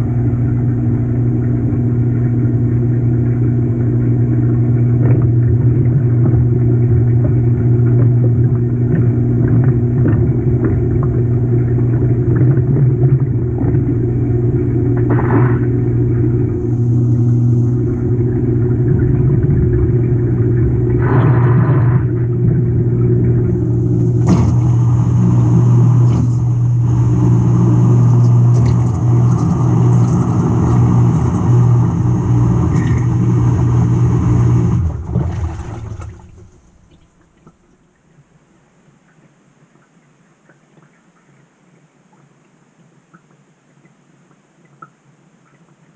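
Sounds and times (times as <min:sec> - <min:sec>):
washing machine humming: 0:00.0 - 0:38.4.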